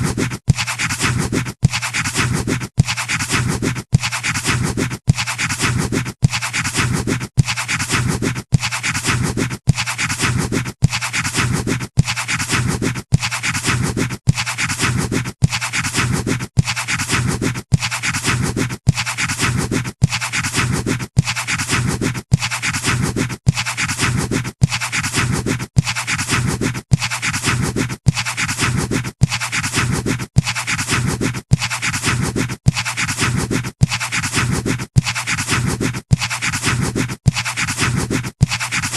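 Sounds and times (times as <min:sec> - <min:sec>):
pencil scratching on paper: 0:00.0 - 0:38.9.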